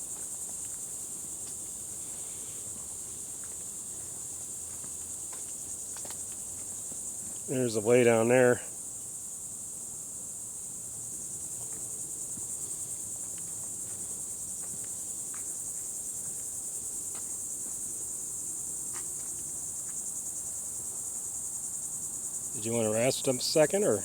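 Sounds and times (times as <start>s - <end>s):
insect chorus trilling: 0.0s - 24.0s.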